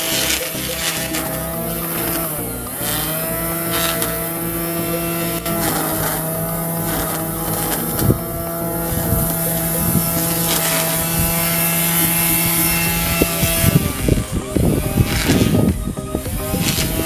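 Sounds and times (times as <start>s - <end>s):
electric line trimmer cutting grass: 0.0s - 17.0s.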